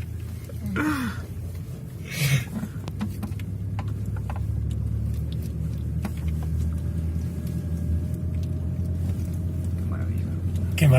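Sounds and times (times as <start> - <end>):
diesel engine running at low revs: 0.0 - 10.9.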